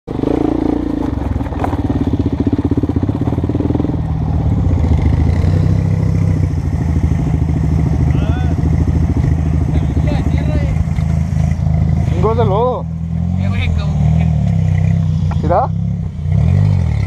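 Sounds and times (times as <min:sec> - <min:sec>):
quad bike engine running: 0:00.1 - 0:17.0.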